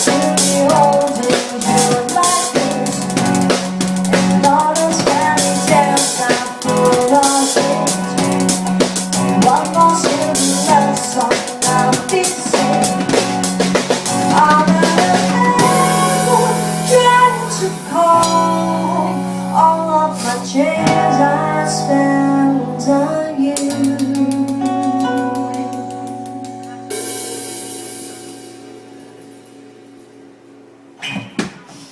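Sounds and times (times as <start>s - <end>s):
pop song with drums and guitar: 0.0s - 30.2s.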